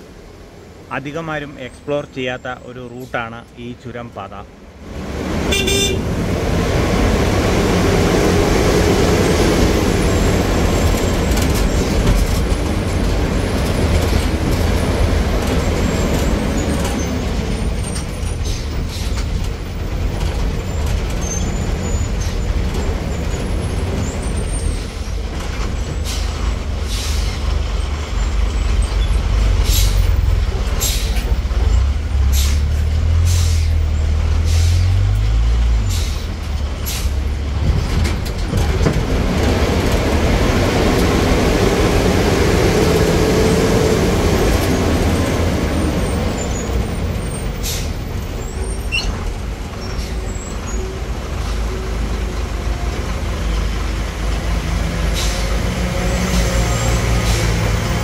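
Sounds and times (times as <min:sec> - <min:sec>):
bus engine rumbling: 0:00.0 - 0:58.0.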